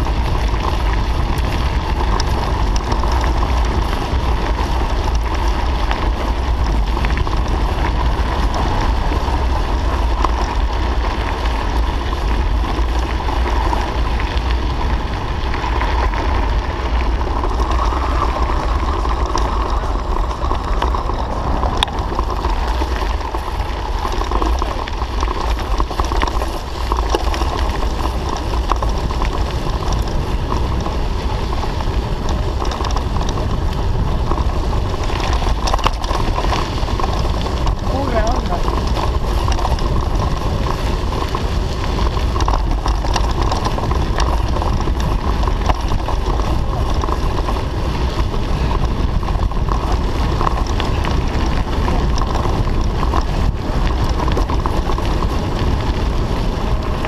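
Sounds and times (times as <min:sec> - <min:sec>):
bike tyres rolling on gravel: 0:00.0 - 0:57.0
wind buffeting microphone: 0:00.0 - 0:57.0.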